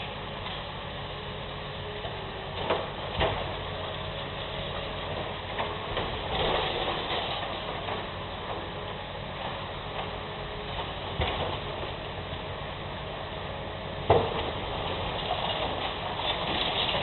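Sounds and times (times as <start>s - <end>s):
demolition machine engine running: 0.0s - 17.0s.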